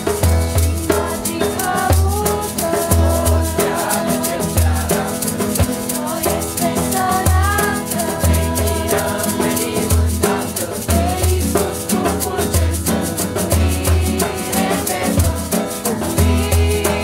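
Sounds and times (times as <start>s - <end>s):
group singing a carol: 0.0s - 17.0s
hand-held shakers rattling: 0.0s - 17.0s
upbeat accompaniment with bass line: 0.0s - 17.0s.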